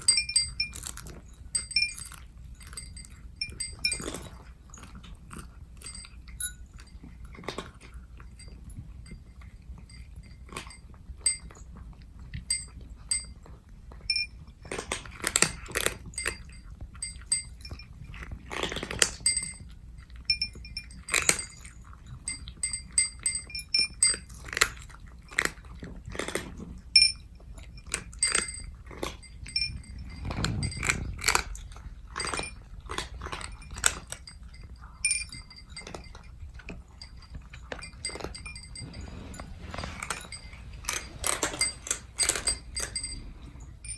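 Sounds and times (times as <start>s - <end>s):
light clinks: 0.0s - 11.6s, 12.5s - 13.3s, 14.1s - 19.7s, 20.3s - 24.7s, 27.0s - 43.9s
cats crunching dry kibble: 0.0s - 43.9s.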